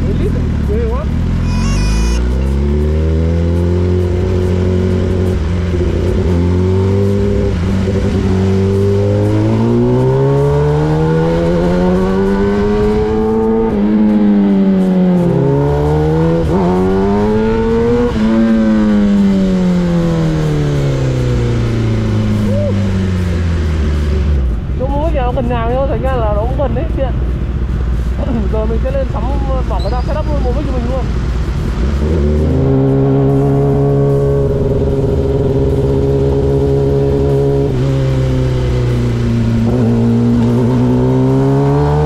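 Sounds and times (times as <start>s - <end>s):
motorcycle engine revving: 0.0s - 25.2s, 26.0s - 42.0s.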